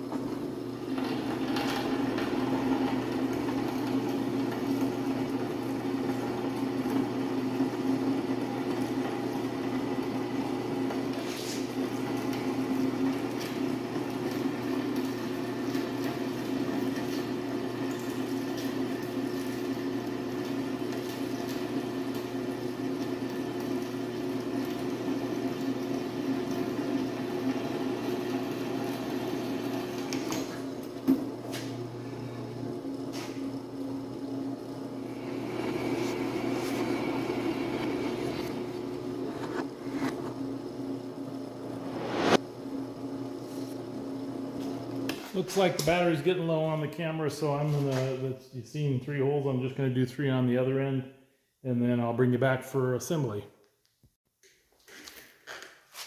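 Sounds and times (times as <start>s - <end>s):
drill press motor hum: 0.0s - 46.0s.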